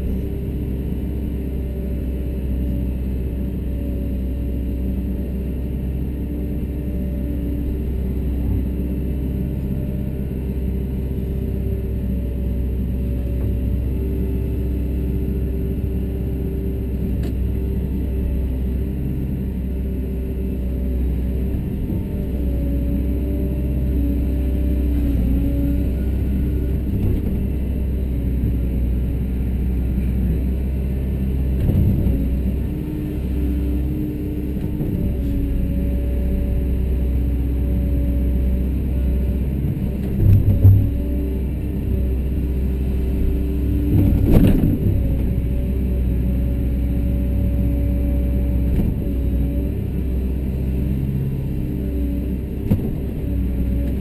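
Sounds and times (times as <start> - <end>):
excavator engine humming: 0.0 - 54.0.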